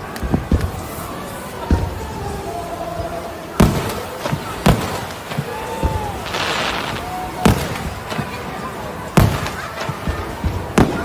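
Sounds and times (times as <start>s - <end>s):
fireworks bangs: 0.0s - 11.0s
fireworks crackling hiss: 0.0s - 11.0s
fireworks popping: 0.0s - 11.0s.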